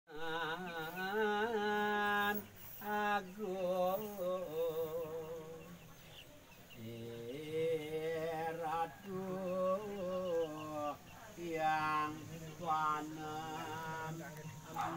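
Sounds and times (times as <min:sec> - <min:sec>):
person chanting a prayer: 0:00.1 - 0:06.1, 0:06.8 - 0:14.9.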